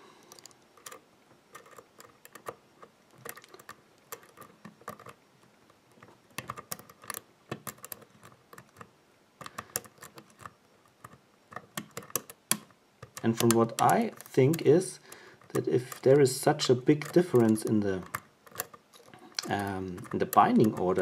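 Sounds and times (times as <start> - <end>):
lock pick clicking on pins: 0.2 - 5.2, 5.9 - 21.0.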